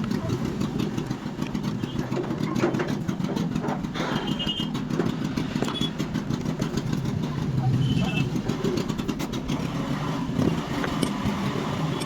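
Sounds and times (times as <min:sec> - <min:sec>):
motor running with rough rumble: 0:00.0 - 0:12.0.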